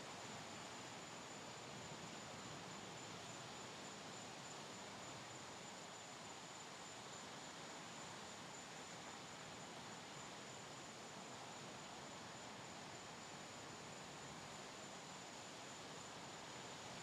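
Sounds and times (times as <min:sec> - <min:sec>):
distant ocean surf hiss: 0:00.0 - 0:17.0.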